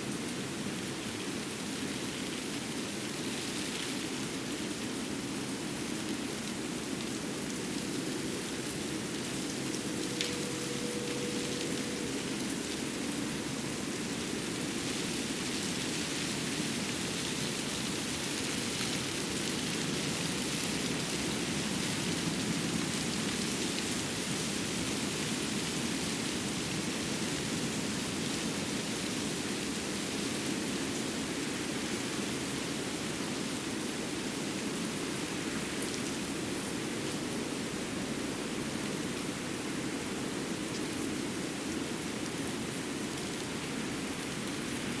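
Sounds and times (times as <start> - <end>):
winter forest ambience: 0.0 - 45.0.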